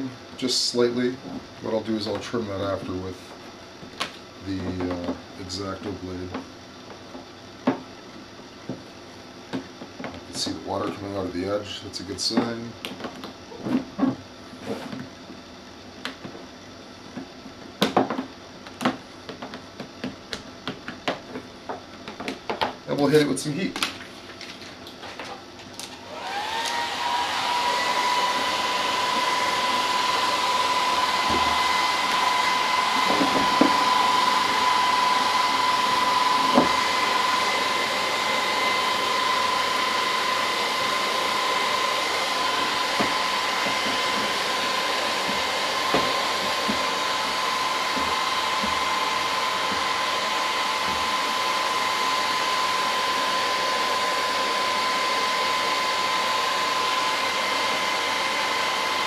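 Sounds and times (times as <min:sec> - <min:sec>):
heat gun fan whining: 0:00.0 - 0:59.0.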